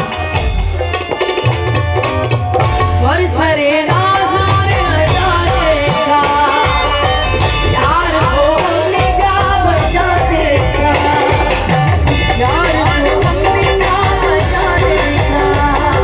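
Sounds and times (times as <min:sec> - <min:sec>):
tabla and dholak drums: 0:00.0 - 0:16.0
woman singing: 0:02.8 - 0:16.0.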